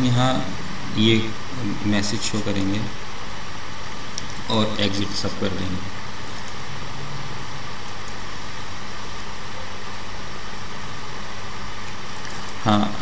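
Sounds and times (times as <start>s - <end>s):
background hiss: 0.0s - 13.0s
faint low hum: 0.0s - 13.0s.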